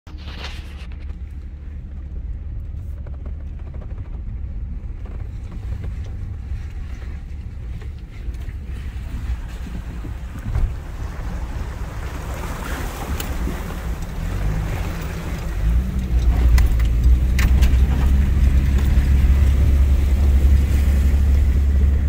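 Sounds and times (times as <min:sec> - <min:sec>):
vehicle engine rumble: 0:00.0 - 0:22.0
water sloshing around wheels: 0:00.1 - 0:22.0.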